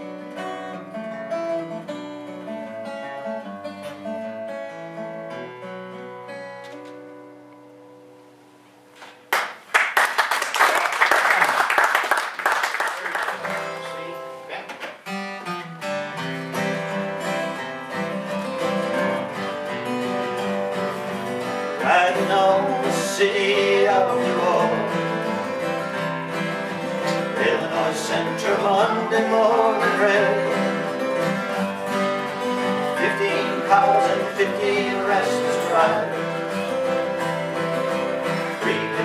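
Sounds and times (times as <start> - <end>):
acoustic guitar picking and strumming: 0.0 - 9.7, 13.4 - 39.0.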